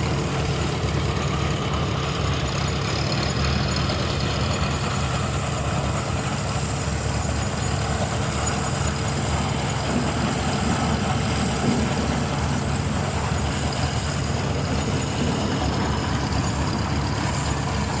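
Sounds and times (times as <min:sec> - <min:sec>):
steam engine rumbling: 0:00.0 - 0:18.0.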